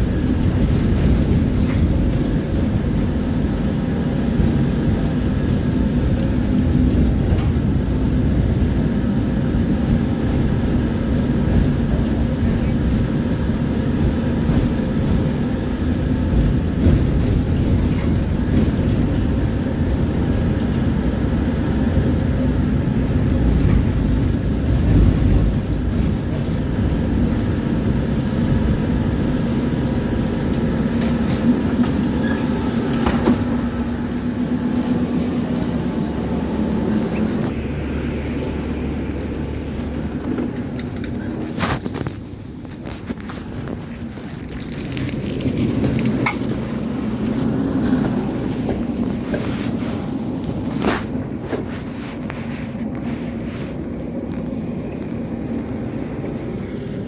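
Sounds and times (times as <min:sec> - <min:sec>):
constant hum: 0:00.0 - 0:57.0
tram wheels rumbling on rails: 0:00.0 - 0:57.0.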